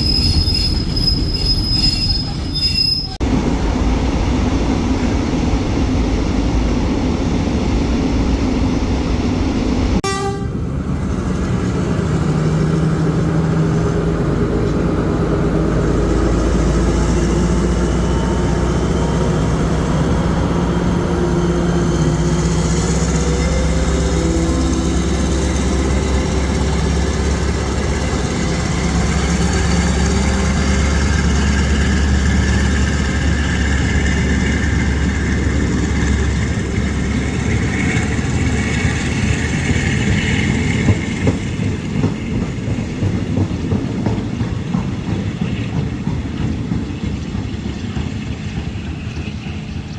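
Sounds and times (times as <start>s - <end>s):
diesel locomotive engine drone: 0.0s - 49.9s.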